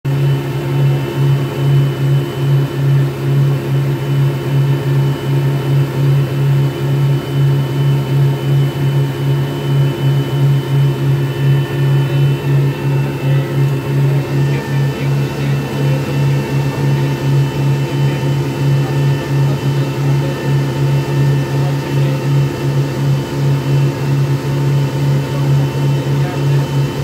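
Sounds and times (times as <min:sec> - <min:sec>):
outboard motors humming: 0:00.1 - 0:27.0.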